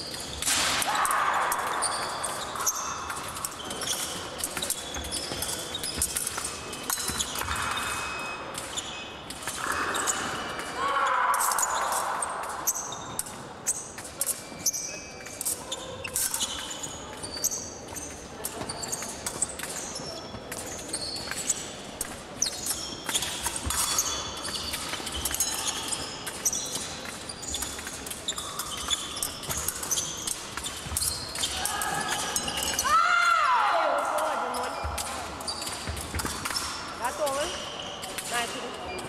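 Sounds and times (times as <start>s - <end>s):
fencing blades clashing: 0.0s - 39.0s.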